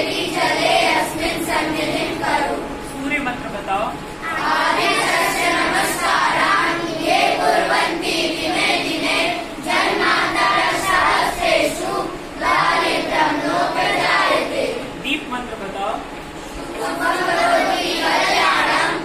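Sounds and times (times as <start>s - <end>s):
boys singing in unison: 0.0s - 2.8s, 4.2s - 15.0s, 16.6s - 19.0s.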